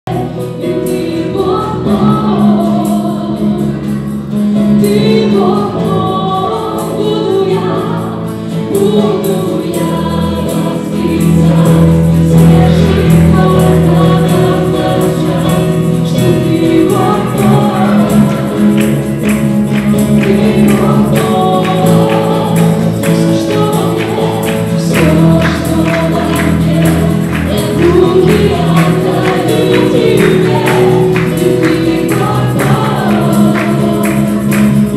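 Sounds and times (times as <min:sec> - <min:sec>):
acoustic guitar: 0:00.0 - 0:34.9
electric bass: 0:00.0 - 0:34.9
keyboard: 0:00.0 - 0:34.9
voices singing together: 0:04.6 - 0:34.9.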